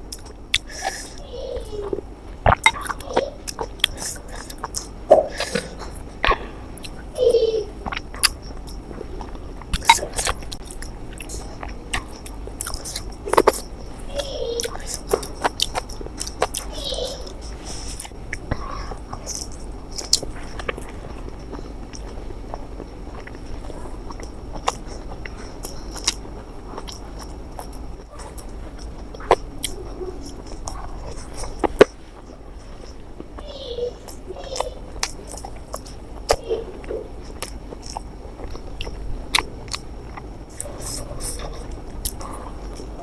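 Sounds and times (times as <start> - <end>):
person chewing food: 0.0 - 43.0
wet mouth clicks: 0.1 - 1.2, 1.8 - 7.1, 7.8 - 33.4, 34.0 - 43.0.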